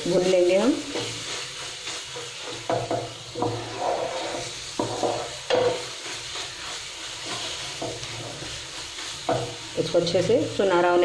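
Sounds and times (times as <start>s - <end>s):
spatula scraping a pan: 0.0s - 10.7s
paste sizzling in a pan: 0.0s - 11.0s.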